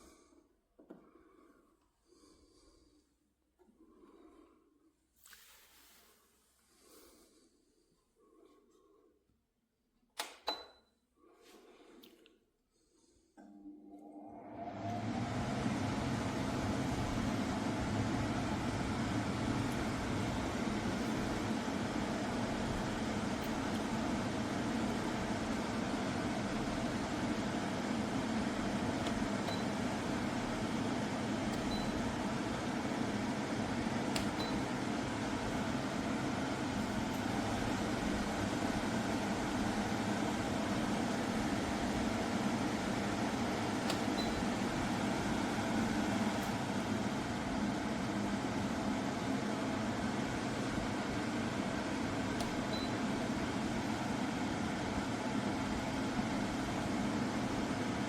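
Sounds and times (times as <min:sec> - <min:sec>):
air conditioner humming: 0:06.7 - 0:58.0.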